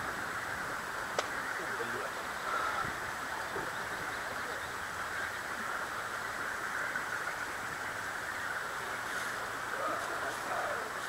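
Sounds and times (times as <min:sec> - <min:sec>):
steady outdoor background hiss: 0:00.0 - 0:11.0.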